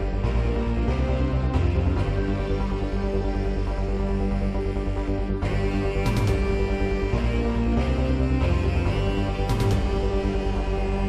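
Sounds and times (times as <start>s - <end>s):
sustained low music chords: 0.0s - 11.0s.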